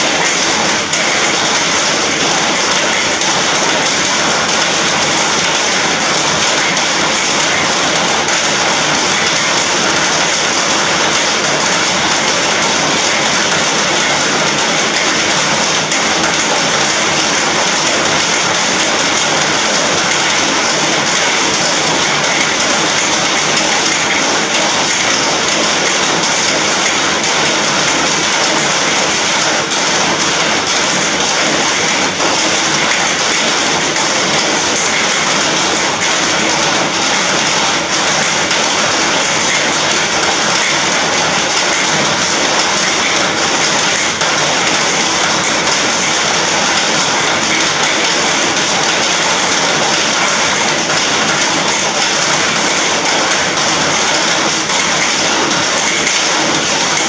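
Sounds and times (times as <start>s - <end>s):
rain on a metal roof: 0.0s - 57.0s.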